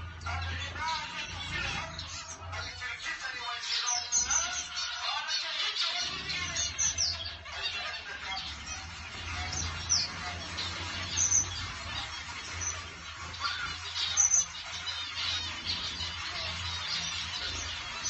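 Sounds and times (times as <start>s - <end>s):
finches chirping: 0.0s - 18.0s.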